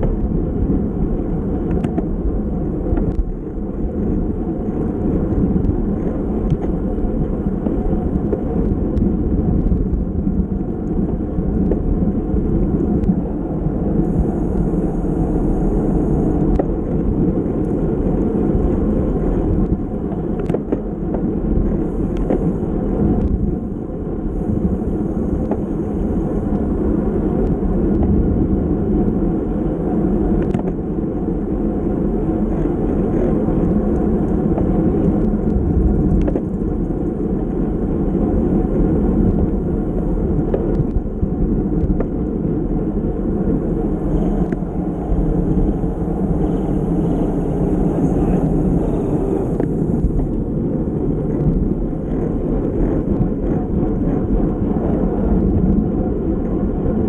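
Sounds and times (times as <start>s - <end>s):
bicycle tyres rumbling on road: 0.0s - 57.0s
wind buffeting microphone: 0.0s - 57.0s.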